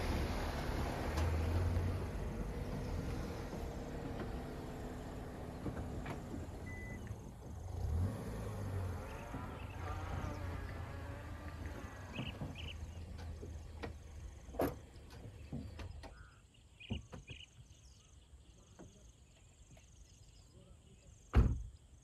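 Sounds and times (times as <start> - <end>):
car engine humming: 0.0 - 20.4.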